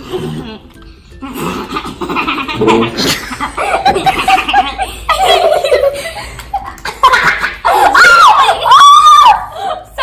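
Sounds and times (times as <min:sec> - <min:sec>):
children laughing and giggling: 0:01.2 - 0:10.0.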